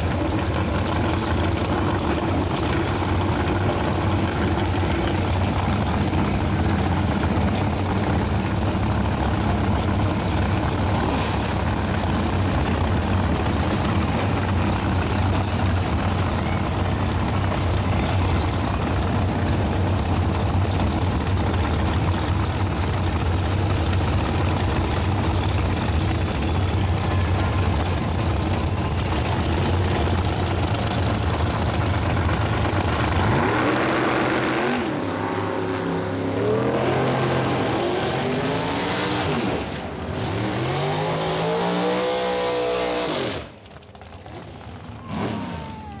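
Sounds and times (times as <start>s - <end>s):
dragster engine revving: 0.0s - 46.0s.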